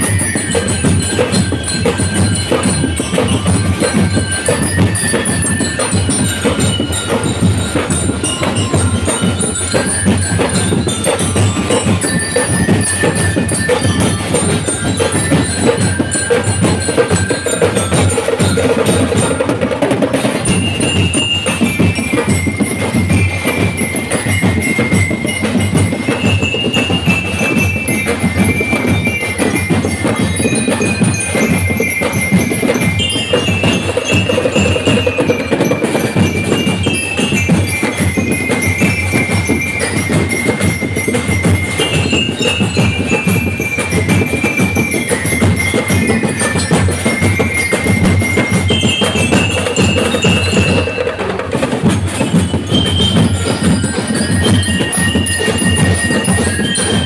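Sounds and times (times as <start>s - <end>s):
drums beating a fast rhythm: 0.0s - 57.0s.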